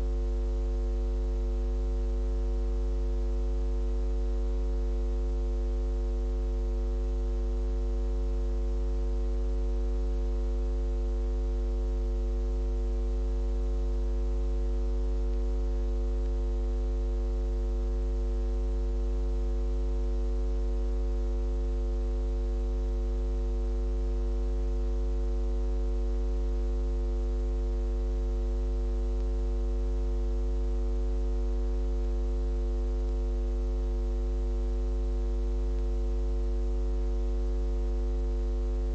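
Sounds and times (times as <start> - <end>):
electrical mains hum: 0.0 - 26.4, 27.1 - 37.6, 38.2 - 38.9.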